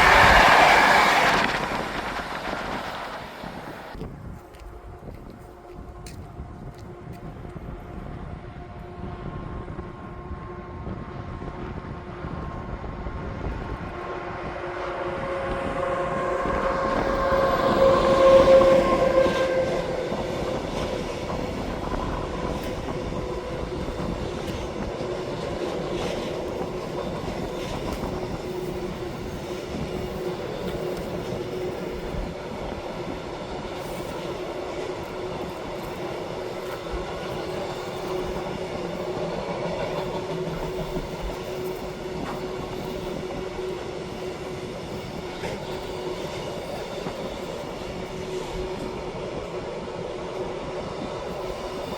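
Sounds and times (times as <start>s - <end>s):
multi-tone train whine: 0.0s - 51.9s
train passing: 0.0s - 51.9s.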